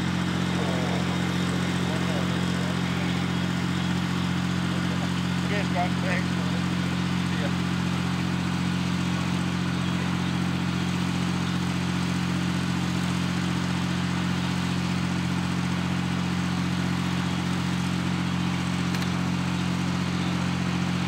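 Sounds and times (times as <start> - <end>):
engine running steadily: 0.0 - 21.0.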